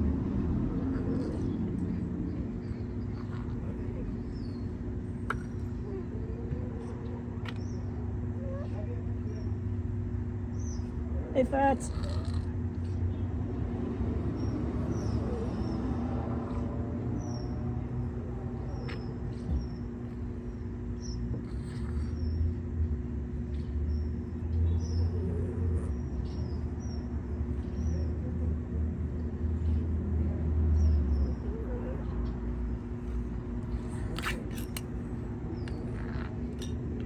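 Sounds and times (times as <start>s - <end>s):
small birds chirping: 0.0s - 30.0s, 30.7s - 37.0s
low mechanical hum: 0.0s - 37.0s.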